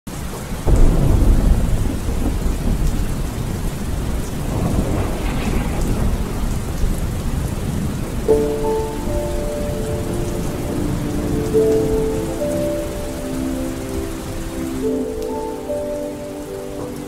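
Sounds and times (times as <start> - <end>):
heavy rain: 0.1 - 17.0
thunder rumbling: 0.5 - 17.0.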